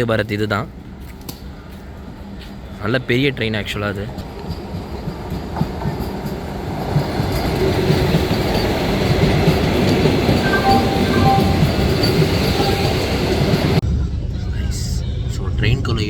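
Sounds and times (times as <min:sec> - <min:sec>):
train wheels rumbling on rail: 0:00.4 - 0:16.0.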